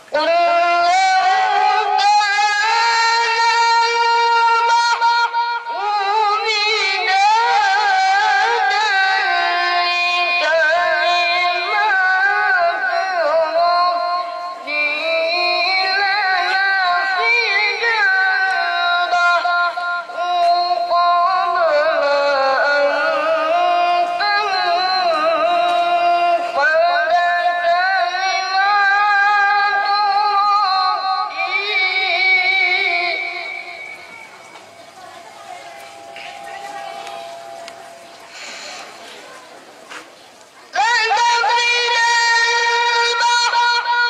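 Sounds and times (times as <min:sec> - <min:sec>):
child reciting melodically: 0:00.0 - 0:44.0.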